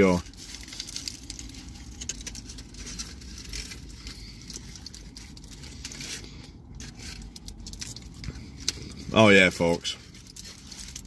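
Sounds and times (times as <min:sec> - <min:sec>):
foil wrapper crinkling: 0:00.0 - 0:11.0
low steady rumble: 0:00.0 - 0:11.0.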